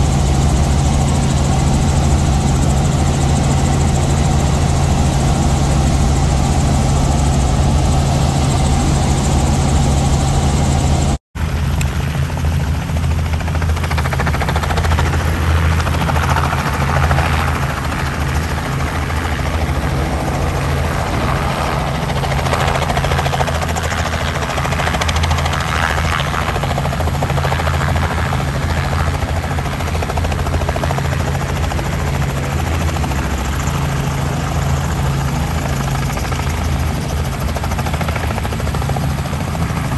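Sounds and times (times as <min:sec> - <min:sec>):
helicopter engine and rotor inside cabin: 0:00.0 - 0:39.9
helicopter rotor turning outside: 0:00.0 - 0:39.9.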